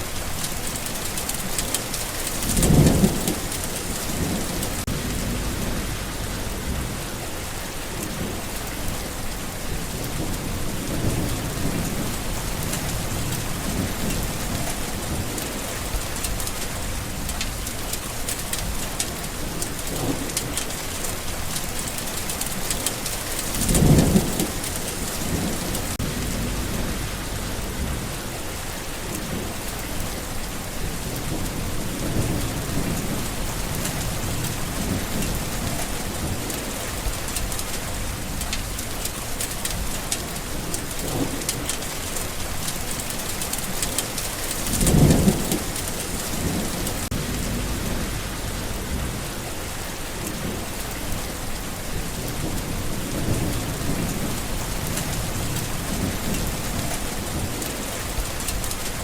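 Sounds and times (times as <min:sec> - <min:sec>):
heavy rain falling: 0:00.0 - 0:59.0
thunder rumbling: 0:00.0 - 0:59.0.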